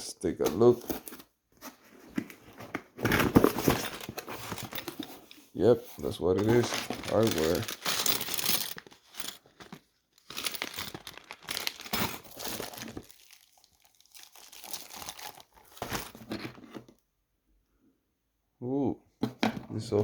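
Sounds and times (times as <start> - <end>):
packaging crinkling and rustling: 0.6 - 17.0.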